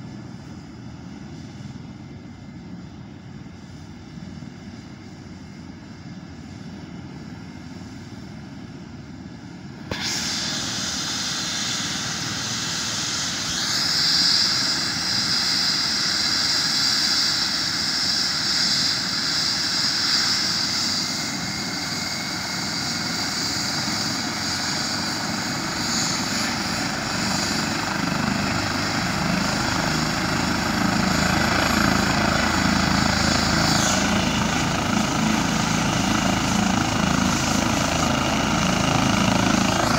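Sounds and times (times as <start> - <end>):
helicopter rotor: 0.0 - 39.9
helicopter turbine whine: 0.0 - 39.9.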